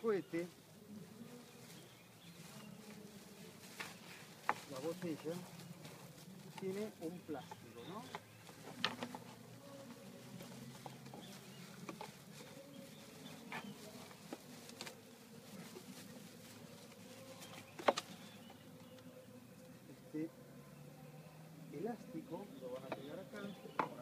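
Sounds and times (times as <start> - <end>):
low background murmur: 0.0 - 24.0.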